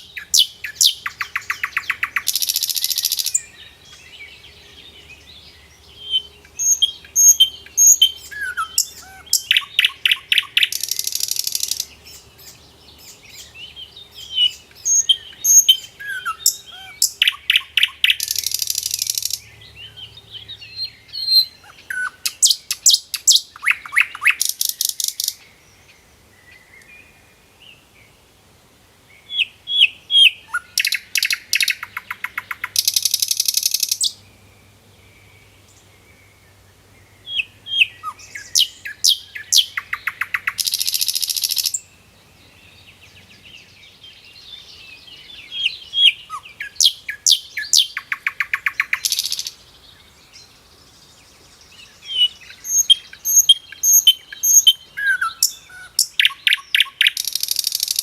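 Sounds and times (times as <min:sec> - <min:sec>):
songbird singing trills: 0:00.0 - 0:28.2, 0:29.1 - 0:58.0.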